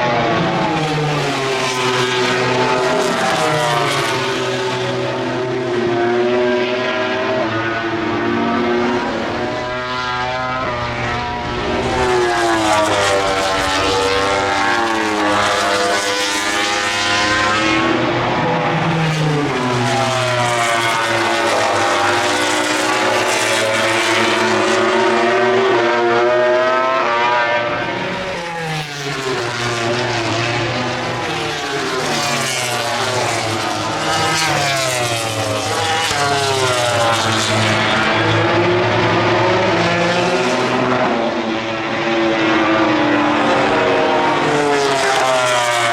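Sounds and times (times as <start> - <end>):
racing motorcycles passing: 0.0 - 45.9.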